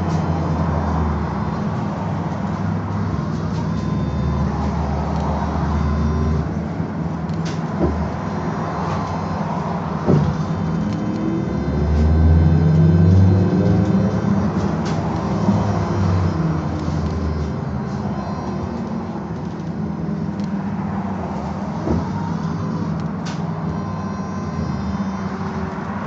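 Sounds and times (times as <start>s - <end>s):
trolleybus running hum and rumble: 0.0s - 26.0s.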